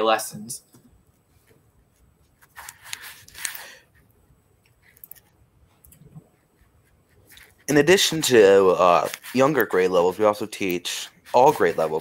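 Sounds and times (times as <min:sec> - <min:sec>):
rustling and scraping: 0:01.1 - 0:12.0.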